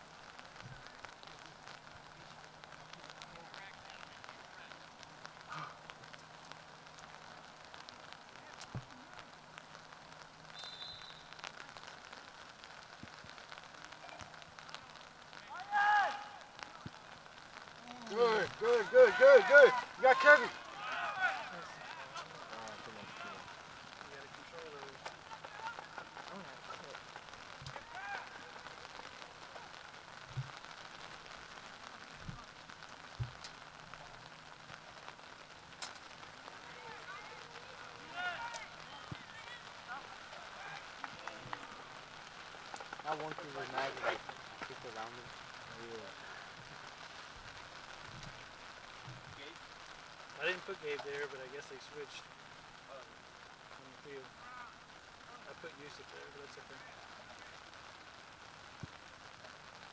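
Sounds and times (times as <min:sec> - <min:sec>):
low crackling hiss: 0:00.0 - 0:59.9.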